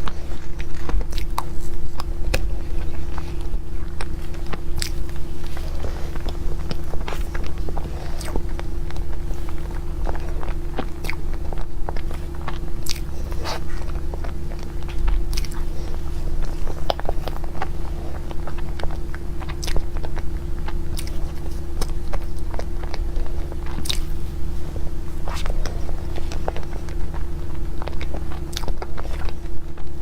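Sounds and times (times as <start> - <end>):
person chewing crunchy cake: 0.0 - 30.0
steady low hum: 0.0 - 30.0.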